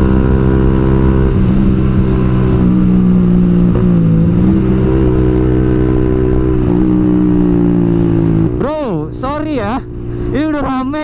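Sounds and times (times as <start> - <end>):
motorcycle engine at light throttle: 0.0 - 11.0.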